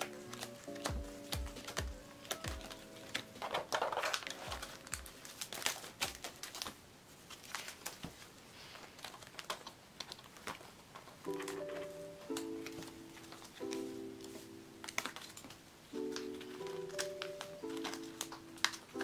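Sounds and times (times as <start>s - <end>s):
cards tapping and clicking: 0.0s - 6.8s, 9.0s - 19.0s
plastic crinkle: 0.0s - 19.0s.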